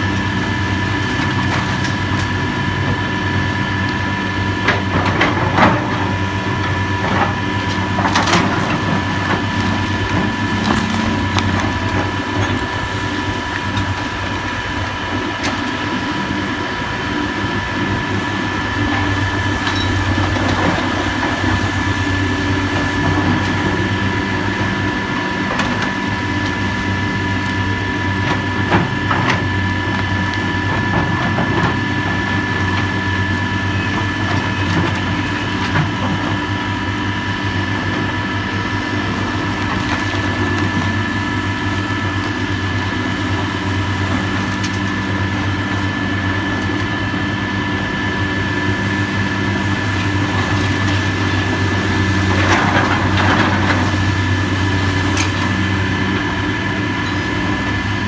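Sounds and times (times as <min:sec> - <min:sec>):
constant machine whine: 0:00.0 - 0:58.0
diesel machinery engine hum: 0:00.0 - 0:58.0.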